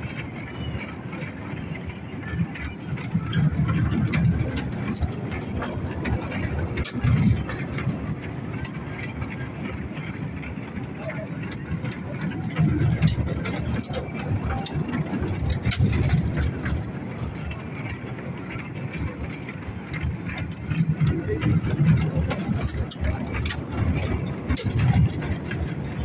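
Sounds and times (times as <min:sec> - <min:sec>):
clicks and rattles: 0:00.0 - 0:26.0
mini train wheels rumbling on rails: 0:00.0 - 0:26.0.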